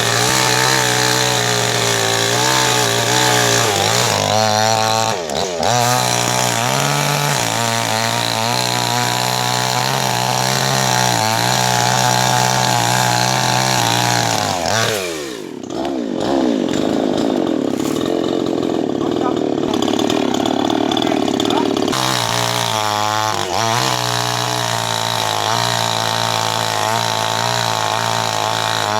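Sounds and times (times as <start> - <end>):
chainsaw running: 0.0 - 28.9.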